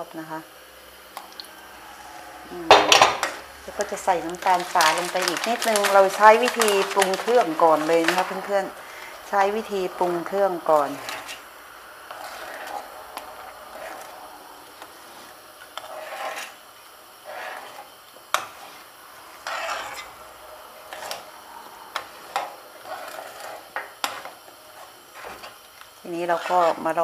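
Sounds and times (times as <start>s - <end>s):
metal utensil stirring in a pan: 1.3s - 11.5s, 12.1s - 16.6s, 17.2s - 27.0s.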